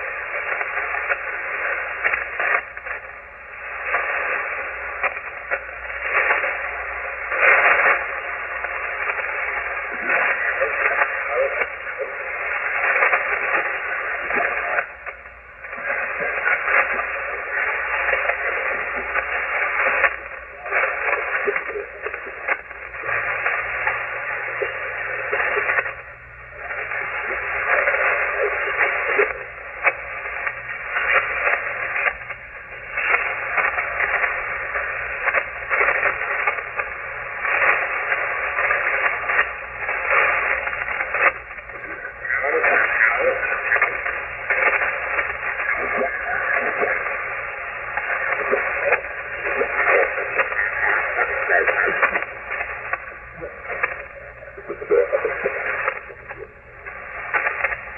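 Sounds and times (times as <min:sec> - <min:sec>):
radio static: 0:00.0 - 0:57.9
weak radio voice: 0:00.0 - 0:57.9.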